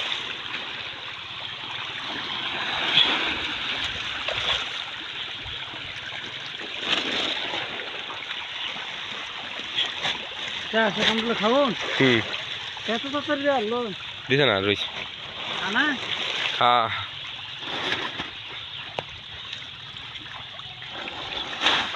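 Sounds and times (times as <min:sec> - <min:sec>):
fish splashing and thrashing: 0:00.0 - 0:21.9.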